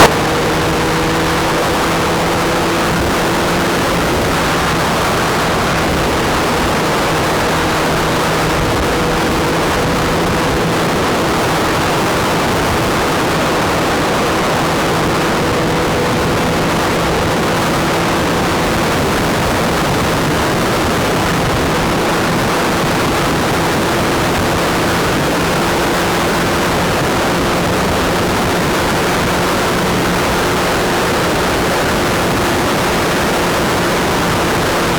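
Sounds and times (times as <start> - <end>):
motorcycle engine droning: 0.0 - 34.9
wind noise: 0.0 - 34.9.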